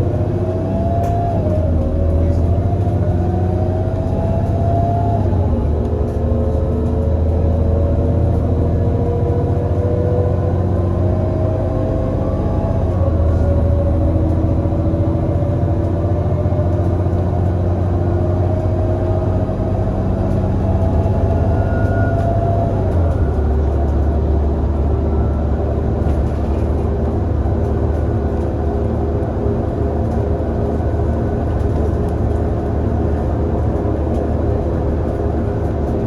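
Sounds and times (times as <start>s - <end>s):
bus engine accelerating: 0.0s - 36.0s.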